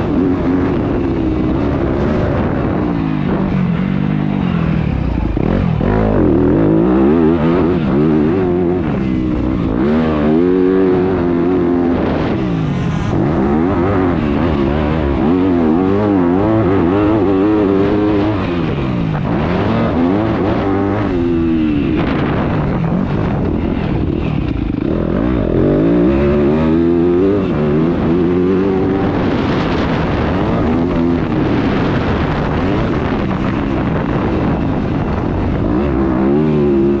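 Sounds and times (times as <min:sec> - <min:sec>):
motocross engine revving: 0:00.0 - 0:37.0.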